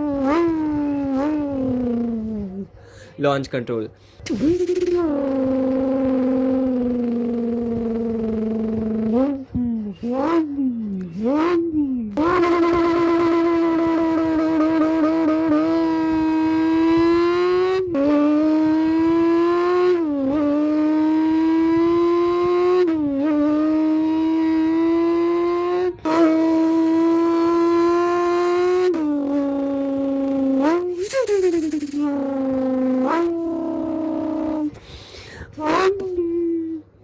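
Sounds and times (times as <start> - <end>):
person imitating engine with mouth: 0.0 - 2.8, 4.2 - 37.0.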